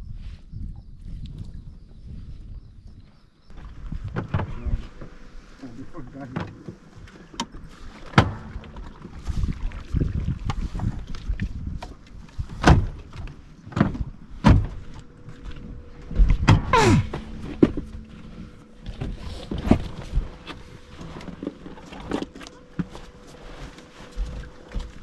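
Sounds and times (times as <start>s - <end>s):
faint steady hum: 1.9s - 25.0s
knocks and thumps on boat: 3.5s - 5.2s, 6.2s - 25.0s.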